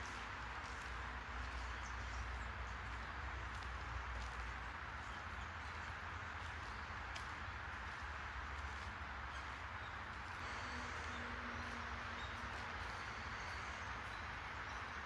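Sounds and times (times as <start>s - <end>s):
distant city traffic hum: 0.0s - 15.0s
faint footsteps on path: 0.0s - 15.0s.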